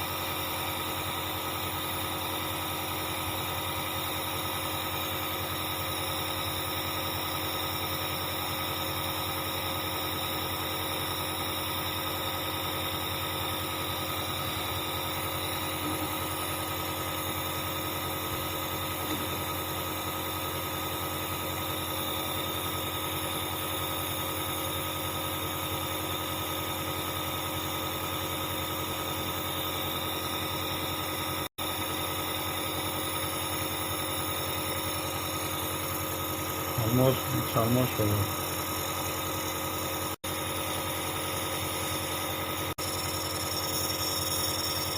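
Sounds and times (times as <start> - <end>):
air compressor buzzing hum: 0.0 - 44.9.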